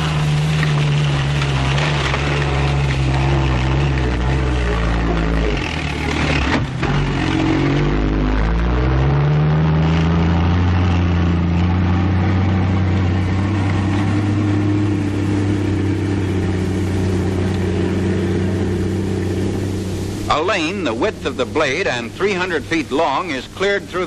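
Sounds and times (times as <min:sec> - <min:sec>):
tank engine droning: 0:00.0 - 0:24.0.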